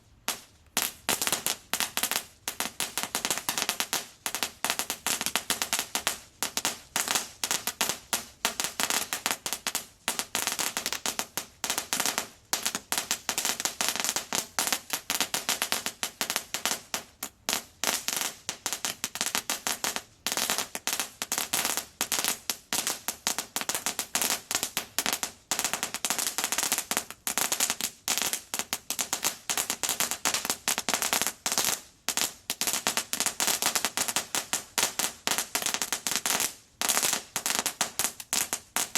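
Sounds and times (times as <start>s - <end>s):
crackling fountain firework: 0.0s - 38.9s.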